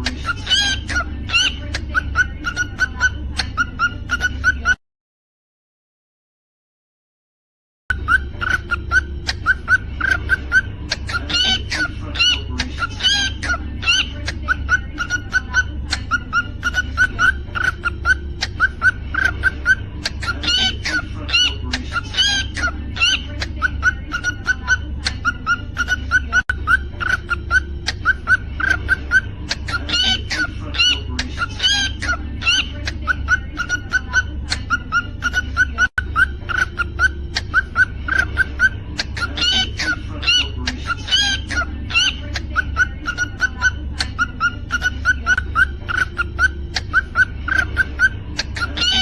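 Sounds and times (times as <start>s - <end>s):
cockatiel chirping: 0.0s - 4.8s, 7.9s - 49.0s
steady low hum: 7.9s - 49.0s.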